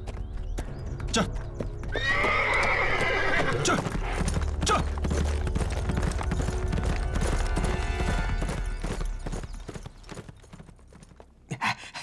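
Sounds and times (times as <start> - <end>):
horse hoofbeats galloping: 0.0 - 11.5.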